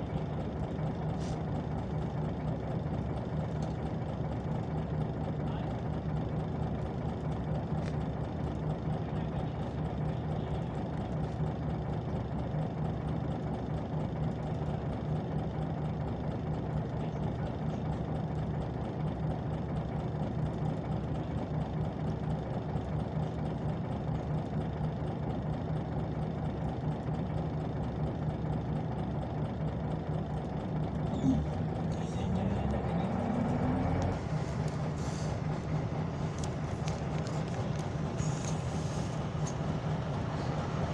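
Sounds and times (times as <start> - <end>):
bus engine idling: 0.0 - 40.9.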